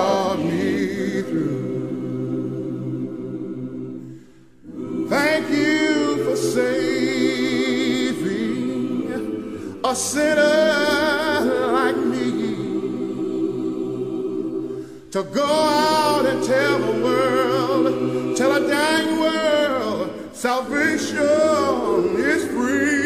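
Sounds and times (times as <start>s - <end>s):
lead voice singing with vibrato: 0.0s - 3.9s, 4.6s - 23.0s.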